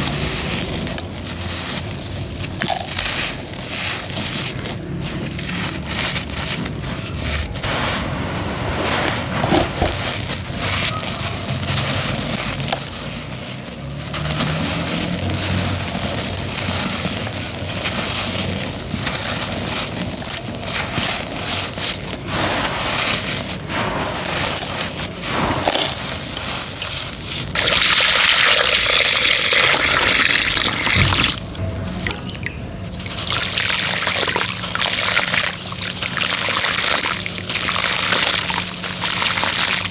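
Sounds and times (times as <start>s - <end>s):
wet cement crunching: 0.0s - 39.9s.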